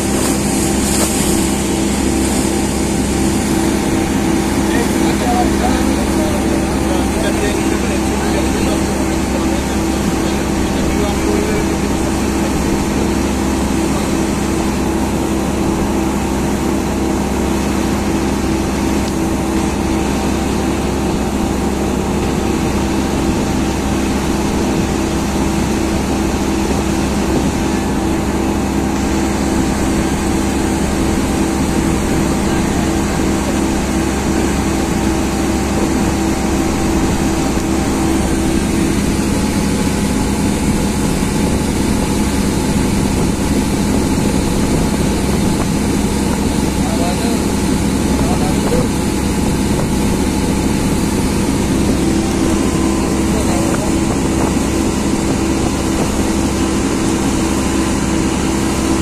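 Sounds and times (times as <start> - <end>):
boat motor droning: 0.0 - 59.0.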